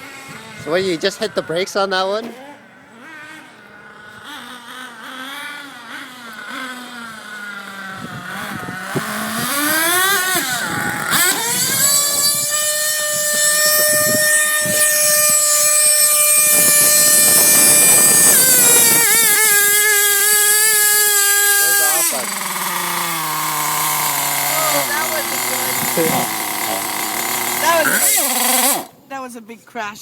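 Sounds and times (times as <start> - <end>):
small engine revving: 0.0 - 29.2.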